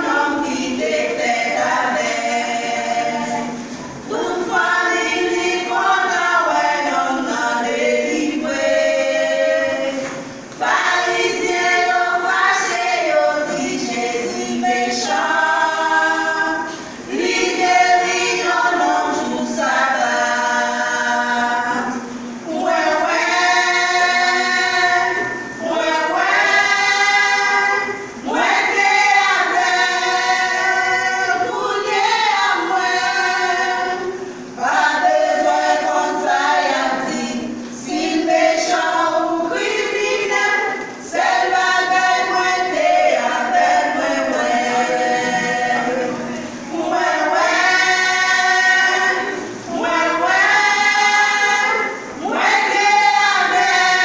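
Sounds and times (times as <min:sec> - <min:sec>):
group singing without instruments: 0:00.0 - 0:54.0.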